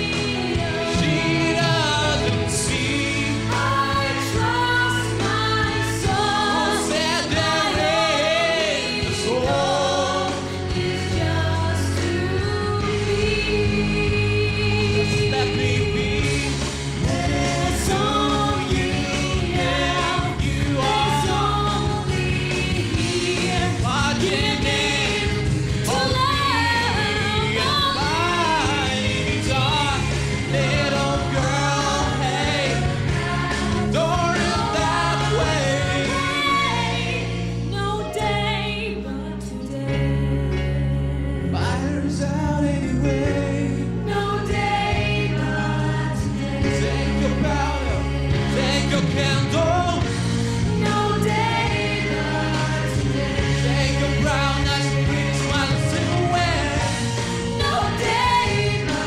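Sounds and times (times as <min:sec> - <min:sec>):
backing music: 0:00.0 - 0:59.0
man and woman singing duet: 0:00.0 - 0:59.0.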